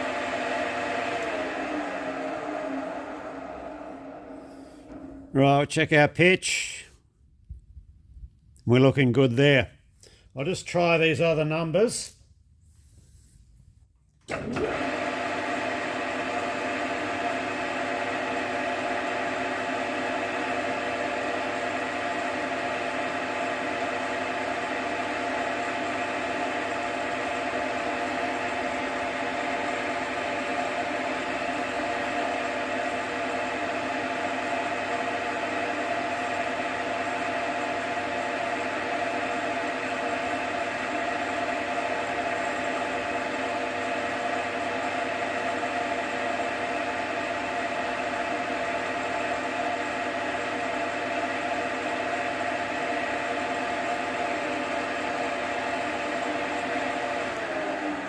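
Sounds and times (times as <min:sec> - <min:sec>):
metal lathe running: 0:00.0 - 0:05.2, 0:14.3 - 0:58.0.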